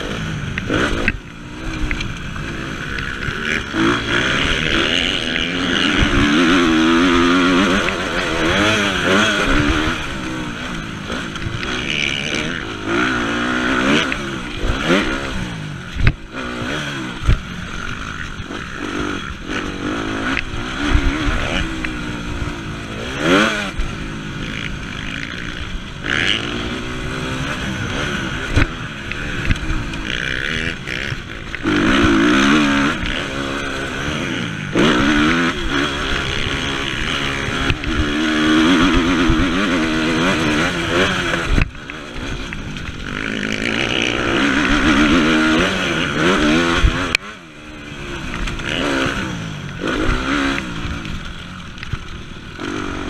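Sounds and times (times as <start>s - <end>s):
motorbike engine revving: 0.0s - 53.0s.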